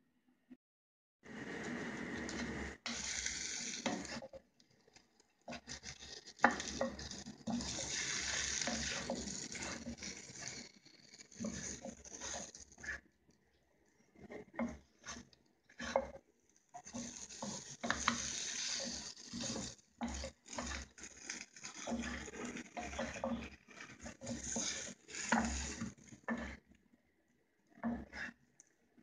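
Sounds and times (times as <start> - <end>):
hot oil sizzling: 2.2 - 13.0, 14.0 - 26.6
wooden spatula scraping a pan: 2.3 - 13.2, 14.0 - 26.7, 27.8 - 28.4.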